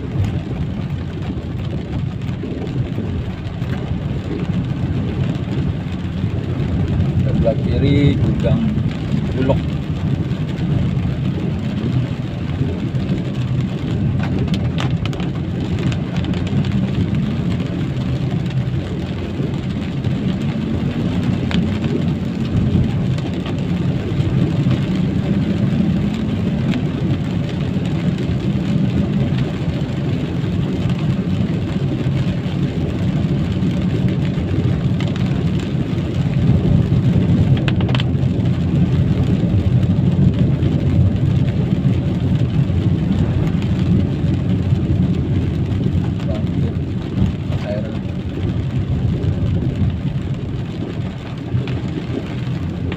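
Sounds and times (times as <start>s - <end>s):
low engine hum: 0.0s - 52.9s
rain: 0.0s - 52.9s
tyres on wet road: 0.0s - 52.9s.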